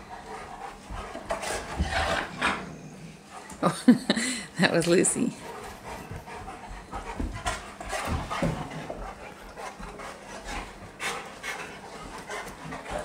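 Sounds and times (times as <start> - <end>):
dogs breathing: 0.0 - 13.0
dogs scuffling on carpet: 0.1 - 3.6, 4.8 - 13.0.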